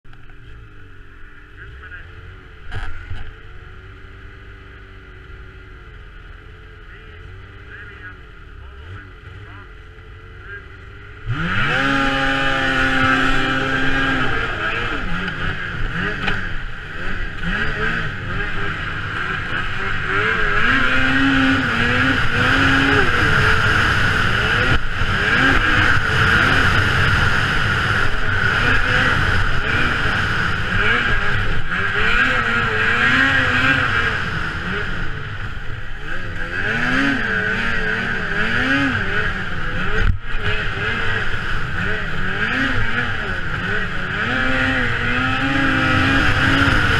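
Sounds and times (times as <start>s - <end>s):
track and wind noise: 0.0s - 46.9s
snowmobile engine revving: 0.3s - 46.9s.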